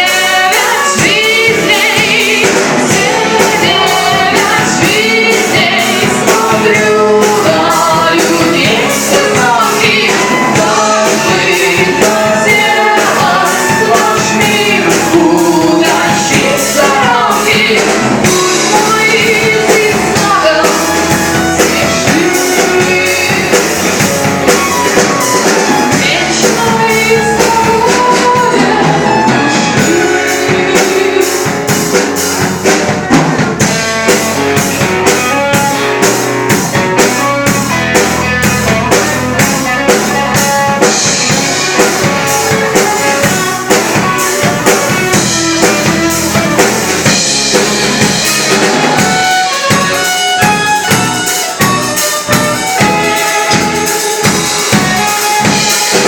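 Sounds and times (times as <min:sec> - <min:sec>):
drum kit beat: 0:00.0 - 0:56.0
rock band playing: 0:00.0 - 0:56.0.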